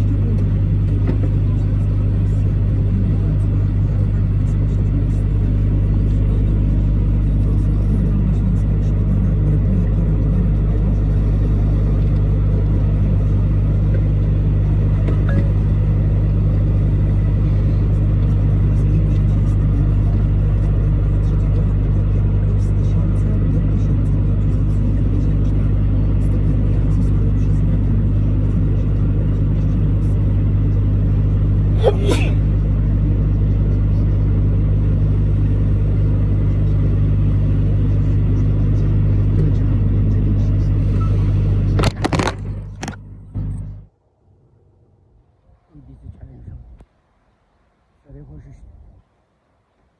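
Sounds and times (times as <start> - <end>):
truck engine and road noise: 0.0 - 49.9.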